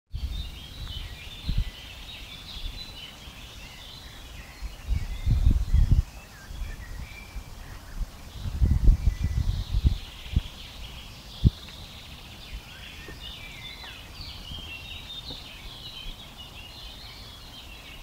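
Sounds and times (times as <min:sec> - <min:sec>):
wind buffeting microphone: 0:00.1 - 0:17.3
birds chirping and calling: 0:00.1 - 0:18.0.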